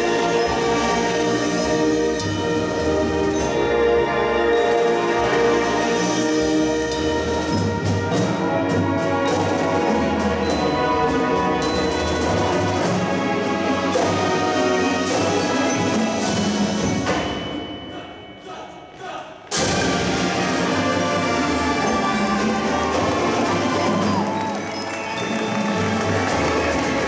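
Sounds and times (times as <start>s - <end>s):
marching band playing: 0.0s - 18.3s, 19.5s - 27.0s.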